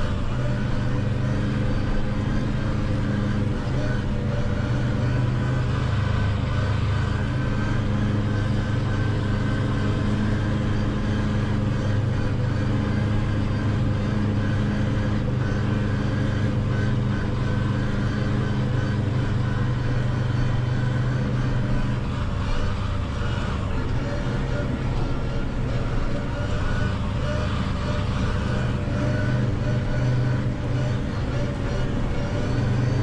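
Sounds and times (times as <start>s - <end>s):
tractor engine drone: 0.0s - 33.0s.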